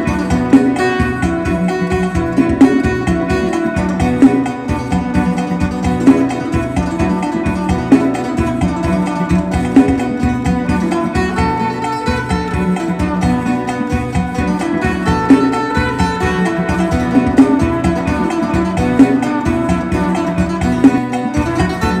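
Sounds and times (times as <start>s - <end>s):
plucked lute melody: 0.0s - 22.0s
steady low beat: 0.0s - 22.0s.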